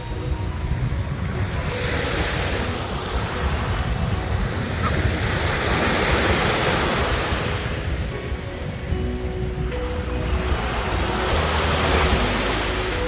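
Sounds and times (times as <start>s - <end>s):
sea waves breaking on beach: 0.0s - 13.0s
wind rumbling on microphone: 0.0s - 13.0s.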